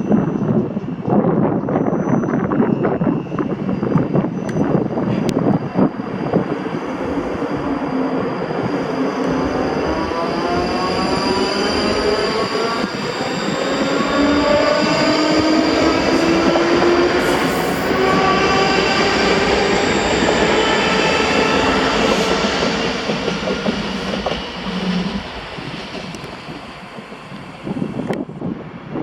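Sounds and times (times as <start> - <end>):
wheel and rail noise: 0.3 - 28.5
electric train motors whining: 3.4 - 28.2.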